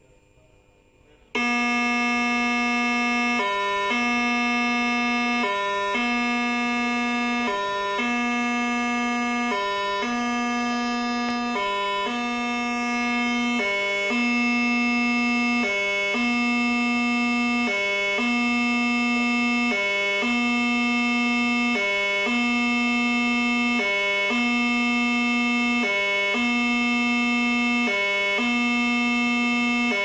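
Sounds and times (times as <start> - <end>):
buzzy electronic alarm tone: 0.0 - 30.0.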